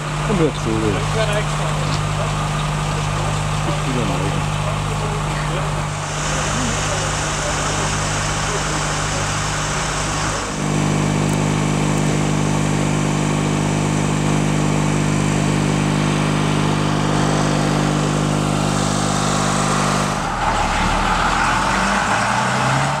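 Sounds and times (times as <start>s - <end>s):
deep engine rumble with hiss: 0.0s - 23.0s
vehicle engine idling: 0.0s - 23.0s.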